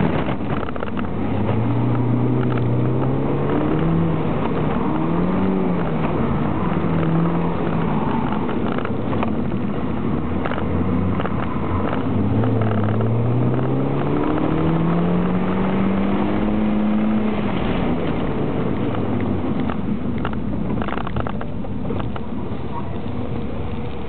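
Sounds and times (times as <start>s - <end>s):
car engine accelerating: 0.0s - 24.0s
tyre and road noise: 0.0s - 24.0s.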